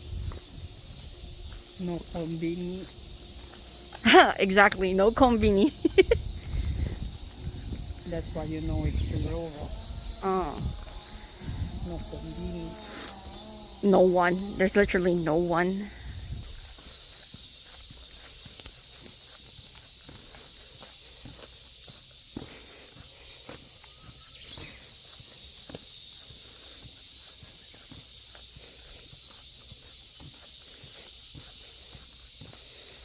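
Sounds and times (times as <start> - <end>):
footsteps on ground: 0.0 - 33.0
high-pitched insect chorus: 0.0 - 33.0.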